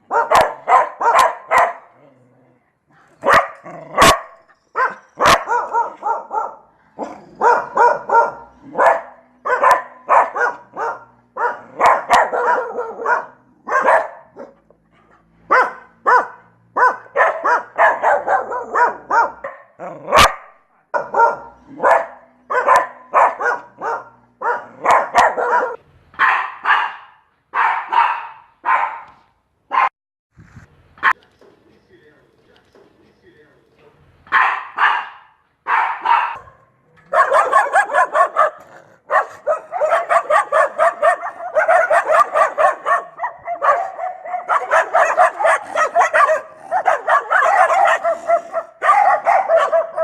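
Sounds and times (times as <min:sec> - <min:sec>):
dog barking: 0:00.0 - 0:02.0, 0:03.2 - 0:14.7, 0:15.5 - 0:29.9, 0:34.3 - 0:50.0.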